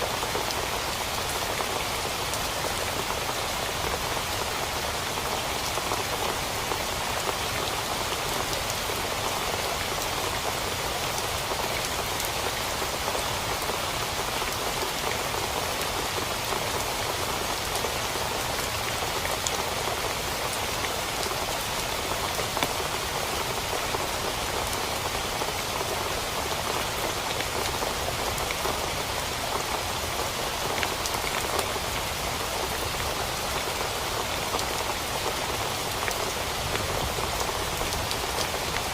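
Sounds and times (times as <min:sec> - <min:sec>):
heavy rain drumming on a tent: 0:00.0 - 0:38.9.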